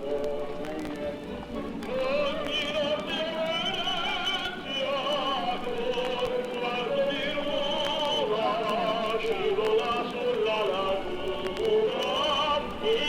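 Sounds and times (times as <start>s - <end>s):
person singing operatically: 0.0s - 13.0s.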